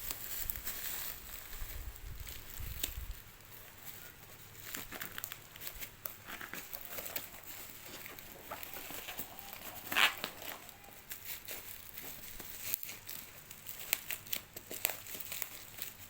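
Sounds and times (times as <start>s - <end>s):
packaging crinkling: 0.0s - 16.0s.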